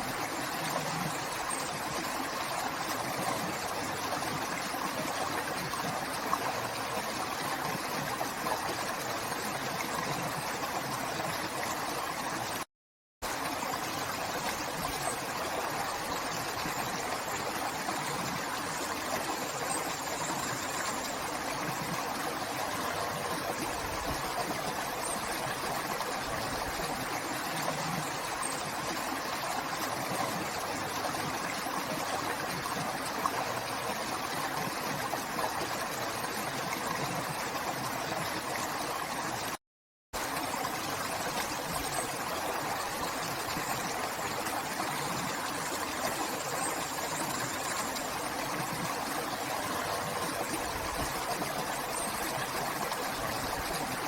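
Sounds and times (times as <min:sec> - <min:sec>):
river water flowing: 0:00.0 - 0:12.6, 0:13.2 - 0:39.6, 0:40.2 - 0:54.0.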